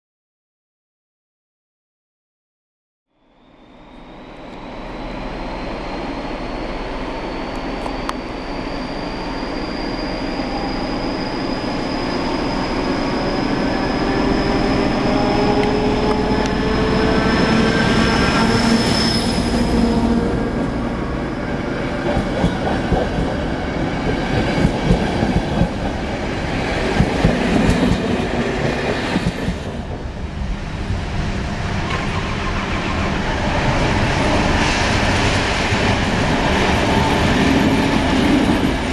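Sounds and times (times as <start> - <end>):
high whine: 3.1 - 38.9
train running: 3.4 - 38.9.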